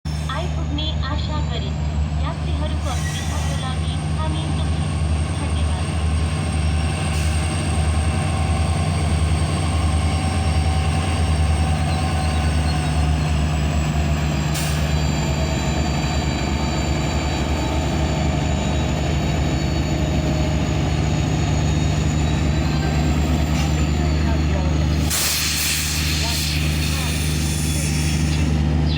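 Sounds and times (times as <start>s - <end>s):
diesel locomotive engine humming: 0.1s - 28.9s.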